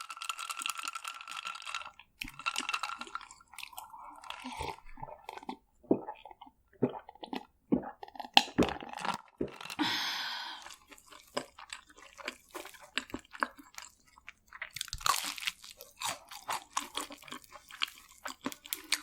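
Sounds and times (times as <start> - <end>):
crunching and chewing fried food: 0.0 - 9.8, 10.6 - 19.0.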